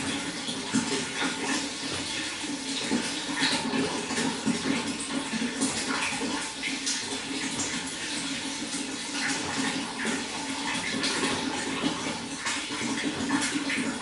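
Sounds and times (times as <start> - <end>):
running water splashing: 0.0 - 14.0.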